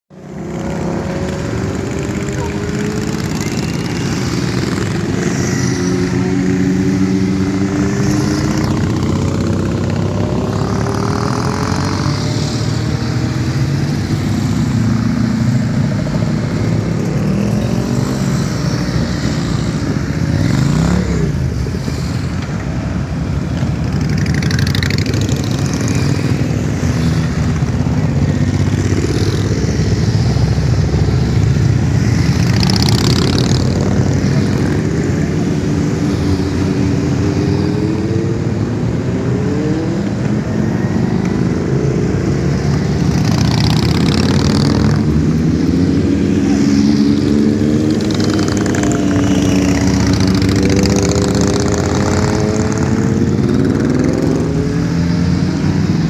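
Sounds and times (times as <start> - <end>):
motorcycle revving: 0.1 - 56.0
motorcycle engines passing: 0.2 - 56.0.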